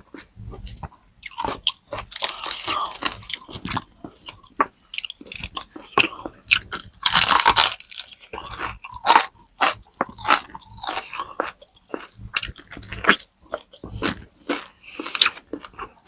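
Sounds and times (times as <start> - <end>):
crunching and chewing pork skin: 0.0 - 16.0.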